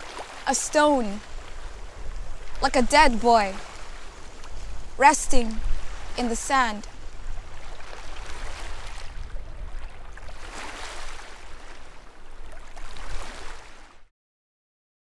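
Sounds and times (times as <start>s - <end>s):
sea water surging: 0.0s - 14.1s.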